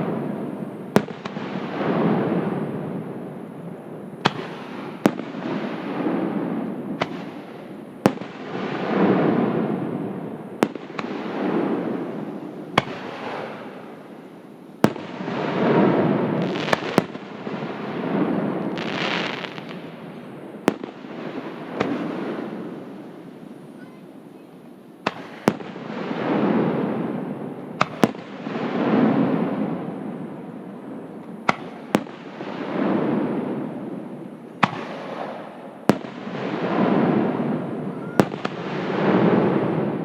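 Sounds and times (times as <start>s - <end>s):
fireworks bursting with bangs: 0.0s - 40.0s
fireworks hissing and crackling: 0.0s - 40.0s.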